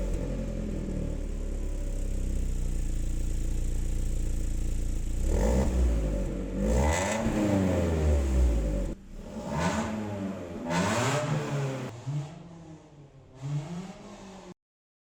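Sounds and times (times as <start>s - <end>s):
car engine idling and revving: 0.0s - 14.6s.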